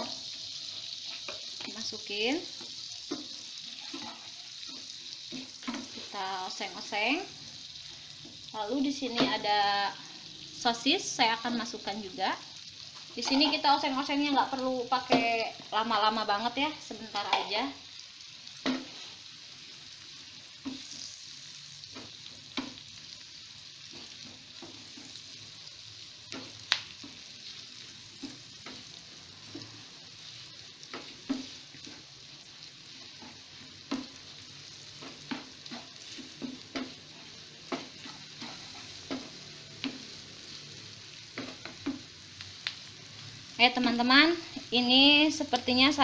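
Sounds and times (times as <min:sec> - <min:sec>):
onion and sausage sizzling: 0:00.0 - 0:46.0.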